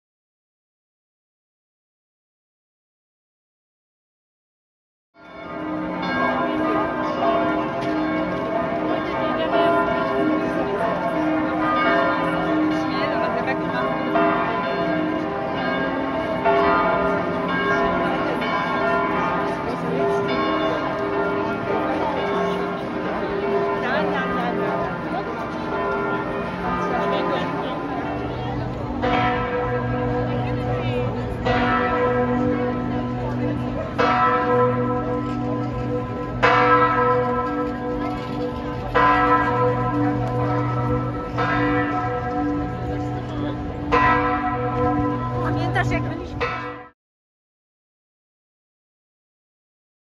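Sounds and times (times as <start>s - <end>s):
church bells pealing: 5.2s - 47.0s.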